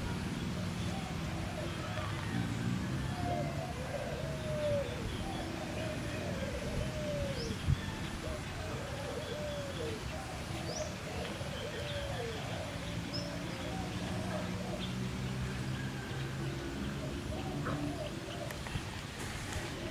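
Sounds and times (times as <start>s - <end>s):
bird calling: 0.0s - 15.2s, 16.7s - 19.9s.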